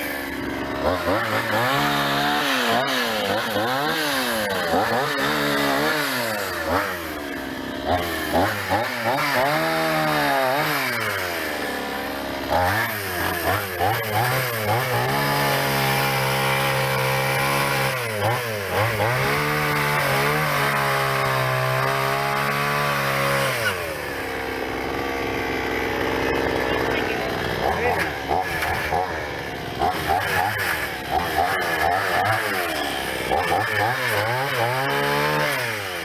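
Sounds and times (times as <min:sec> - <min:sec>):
chainsaw engine revving: 0:00.0 - 0:36.0.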